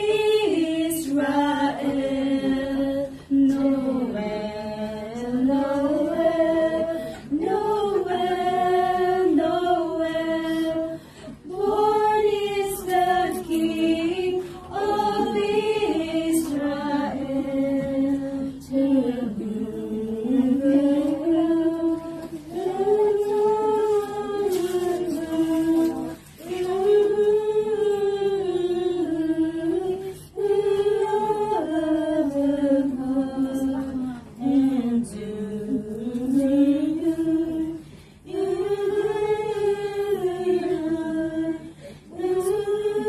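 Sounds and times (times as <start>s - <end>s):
women singing a cappella: 0.0s - 43.0s.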